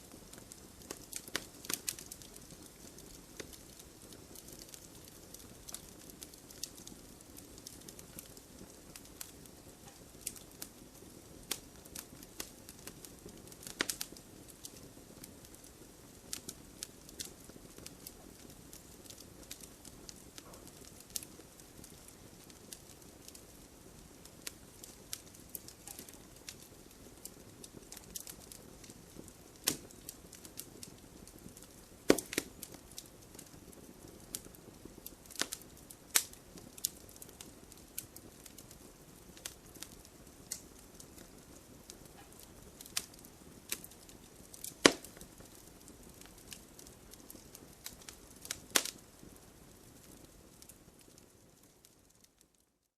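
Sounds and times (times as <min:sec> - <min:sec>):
campfire crackling: 0:00.0 - 0:52.9
sharp fire pops: 0:00.1 - 0:51.3.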